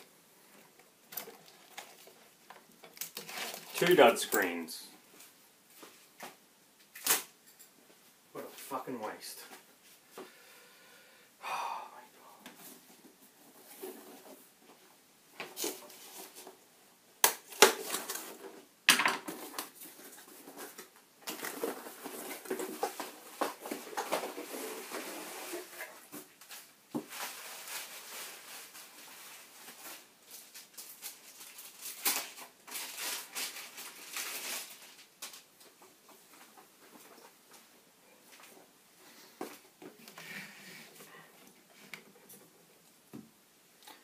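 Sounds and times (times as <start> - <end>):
rustling: 0.0 - 8.7, 12.4 - 16.8, 17.4 - 44.0.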